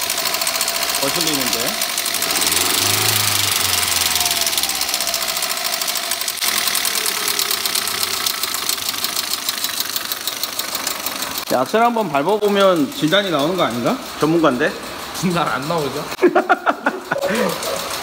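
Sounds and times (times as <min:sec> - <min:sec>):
car engine idling: 0:00.0 - 0:18.0
fast rattling tick: 0:00.0 - 0:18.0.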